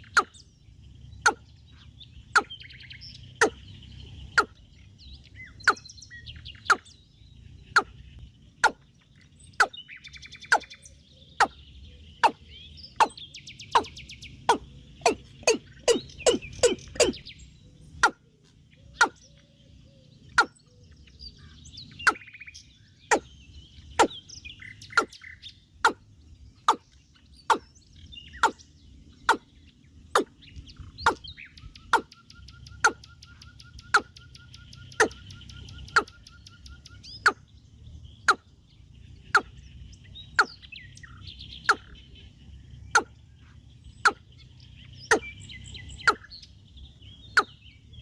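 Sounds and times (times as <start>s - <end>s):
birds chirping and calling: 0.0s - 48.0s.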